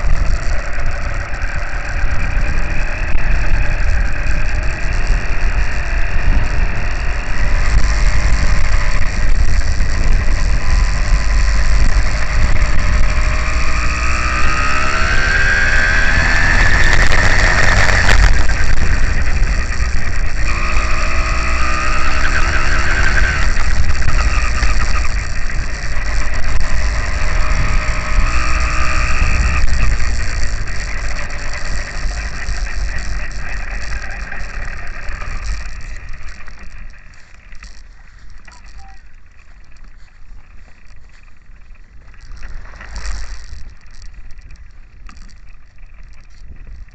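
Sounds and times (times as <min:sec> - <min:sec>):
low rumble of wind and bumps: 0:00.0 - 0:46.9
small two-stroke engine revving: 0:00.0 - 0:46.9.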